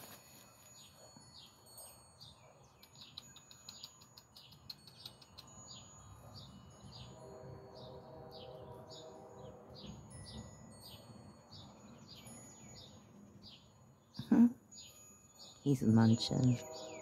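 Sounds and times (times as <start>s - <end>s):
small bird chirping: 0.6s - 7.2s, 9.8s - 17.0s.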